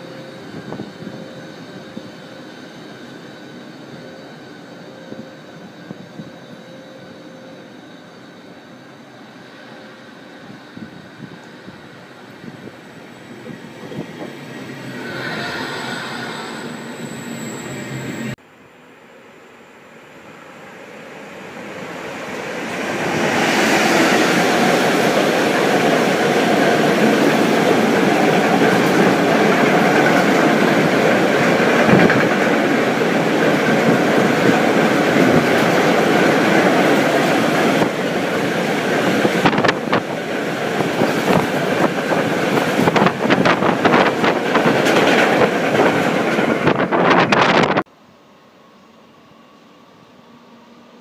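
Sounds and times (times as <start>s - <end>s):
freight train rumbling past: 0.0s - 18.4s, 20.1s - 51.0s.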